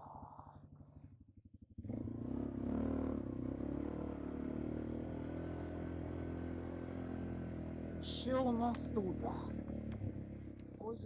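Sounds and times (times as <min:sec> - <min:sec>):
atv engine revving: 0:01.8 - 0:11.0.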